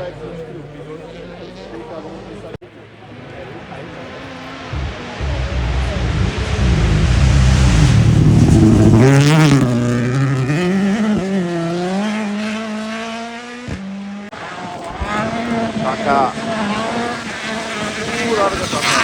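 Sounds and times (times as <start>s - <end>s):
rally car passing at speed: 3.0s - 19.0s
car engine revving: 3.2s - 19.0s.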